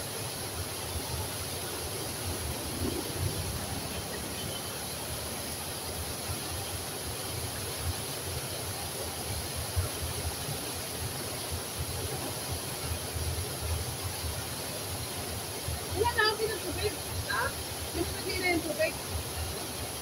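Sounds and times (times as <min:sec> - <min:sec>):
water rushing over cascade: 0:00.0 - 0:20.0.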